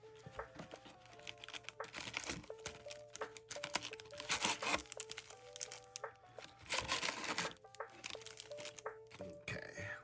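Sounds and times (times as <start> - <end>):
plastic wrapping crinkling and tearing: 0.0 - 9.3
background music with held notes: 0.0 - 10.0.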